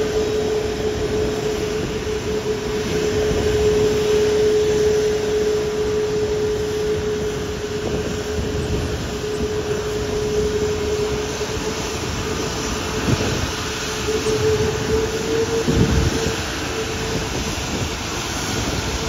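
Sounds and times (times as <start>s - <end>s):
jet airliner taxiing: 0.0s - 19.0s.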